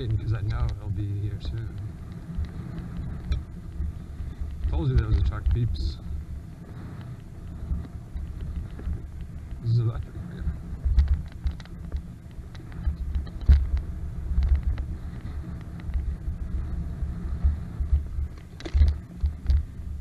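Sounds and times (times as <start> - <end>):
light clicks and rattles: 0.0 - 20.0
wind buffeting microphone: 0.0 - 20.0.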